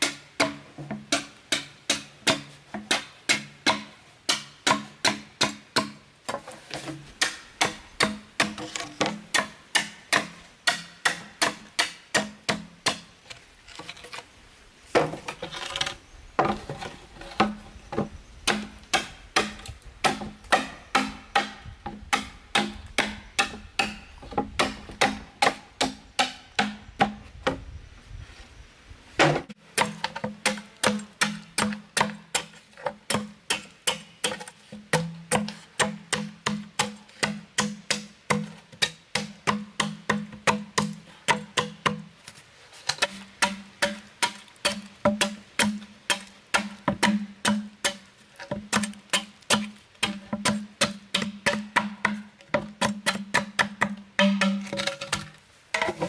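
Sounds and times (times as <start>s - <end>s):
machete chopping bamboo: 0.0s - 13.1s, 18.5s - 27.2s, 29.2s - 42.1s, 42.9s - 56.0s.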